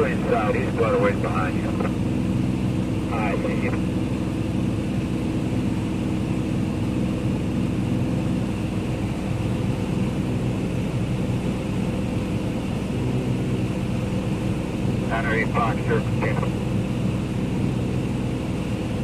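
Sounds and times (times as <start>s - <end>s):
propeller airplane droning: 0.0s - 19.0s.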